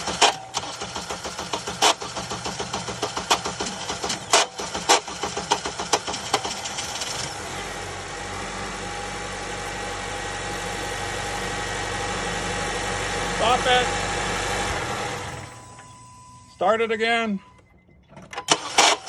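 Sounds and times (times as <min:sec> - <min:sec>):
starter motor clacking: 0:00.0 - 0:16.1, 0:17.6 - 0:19.0
car engine idling: 0:00.0 - 0:18.9.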